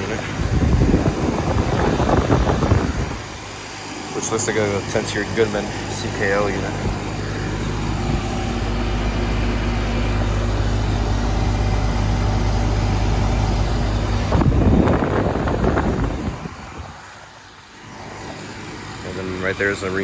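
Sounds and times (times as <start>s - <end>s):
air conditioner compressor hum: 0.0s - 20.0s
condenser fan rushing: 0.0s - 20.0s
loud rough noise: 0.0s - 20.0s.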